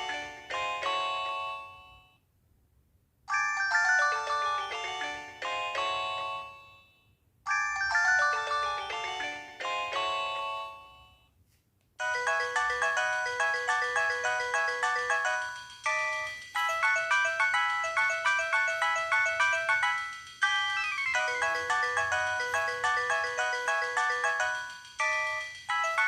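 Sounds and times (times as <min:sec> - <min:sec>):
busier pulsing ringtone: 0:00.0 - 0:02.2, 0:03.3 - 0:11.3, 0:12.0 - 0:26.0
polyphonic phone ringtone: 0:00.0 - 0:02.2, 0:03.3 - 0:11.3, 0:12.0 - 0:26.0.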